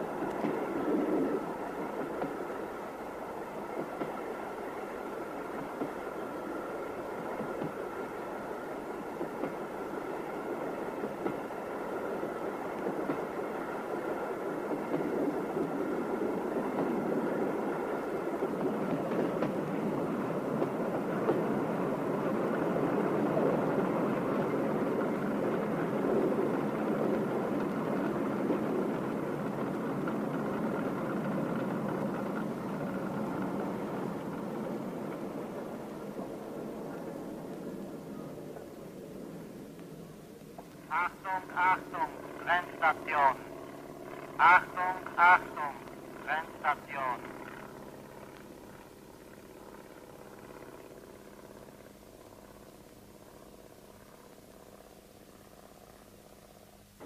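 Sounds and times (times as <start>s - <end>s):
train rumbling on rails: 0.0s - 54.1s.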